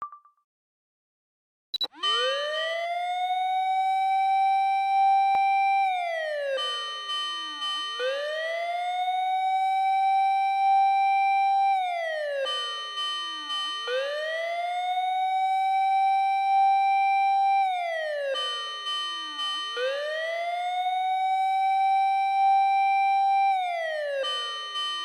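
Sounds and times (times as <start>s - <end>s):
fire engine siren wailing: 1.9s - 25.0s.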